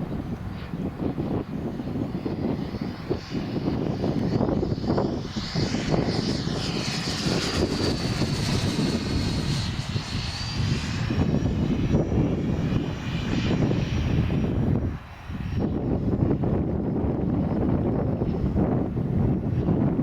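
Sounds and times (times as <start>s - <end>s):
model jet fans whining: 0.0s - 20.0s
wind buffeting on microphone: 0.0s - 20.0s.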